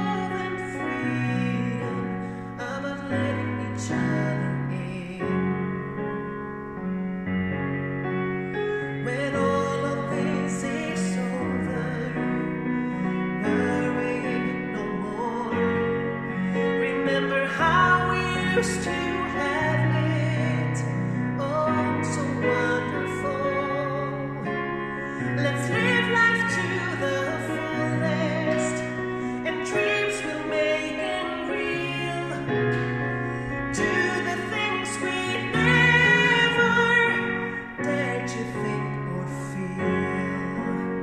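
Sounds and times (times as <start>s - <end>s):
woman singing a ballad: 0.0s - 5.6s, 9.0s - 41.0s
piano accompaniment: 0.0s - 41.0s.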